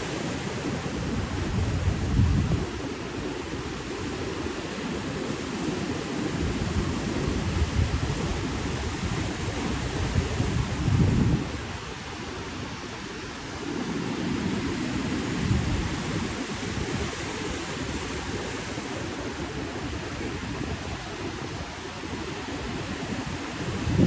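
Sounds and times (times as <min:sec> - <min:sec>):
ocean surf washing: 0:00.0 - 0:24.0.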